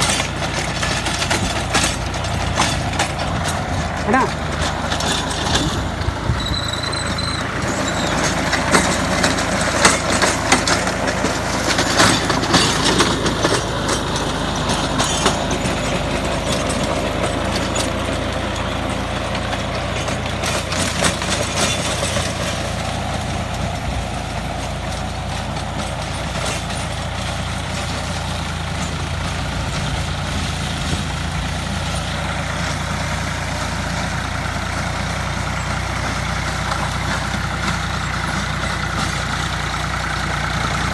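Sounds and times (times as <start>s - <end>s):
sharp knocks and clatter: 0.0s - 40.9s
tractor diesel engine running: 0.0s - 40.9s.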